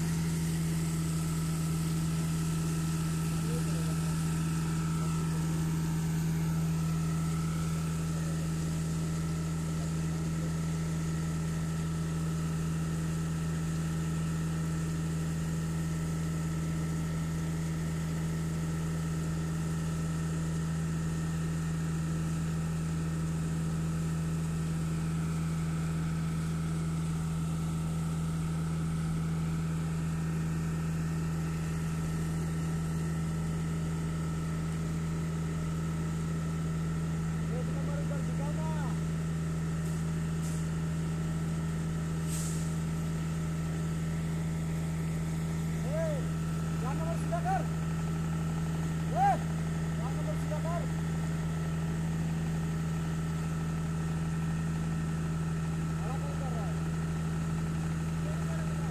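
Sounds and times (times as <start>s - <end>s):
concrete pump diesel engine hum: 0.0s - 58.9s.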